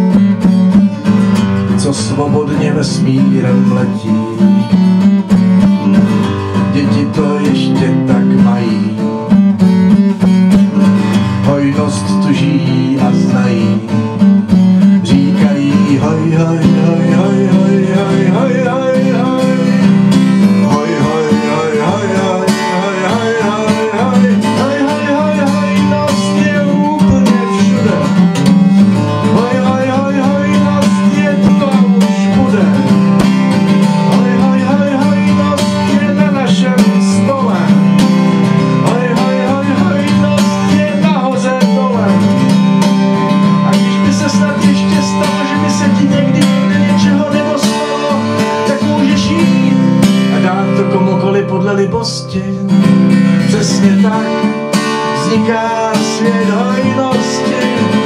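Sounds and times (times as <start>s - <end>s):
classical guitar chords: 0.0s - 58.0s
man singing: 1.0s - 9.5s, 10.6s - 58.0s.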